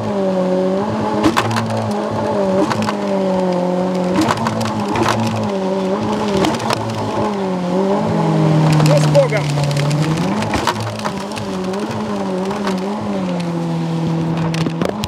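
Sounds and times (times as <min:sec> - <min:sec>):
outboard motor running hard: 0:00.0 - 0:15.0.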